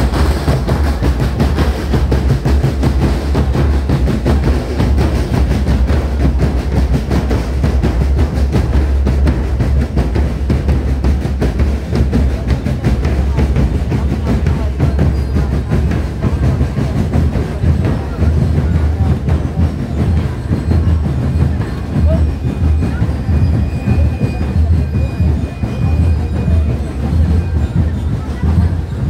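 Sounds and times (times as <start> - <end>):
street drum band: 0.0 - 29.0.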